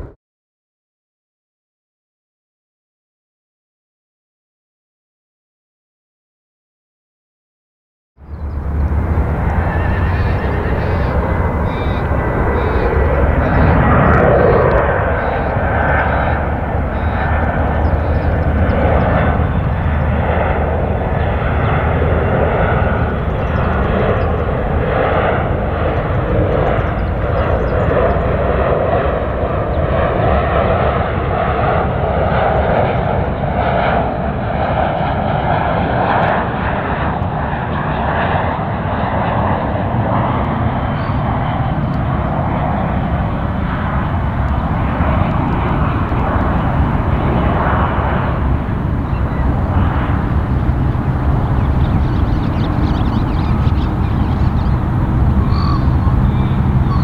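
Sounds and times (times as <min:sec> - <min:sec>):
jet engines rushing: 0:08.2 - 0:57.0.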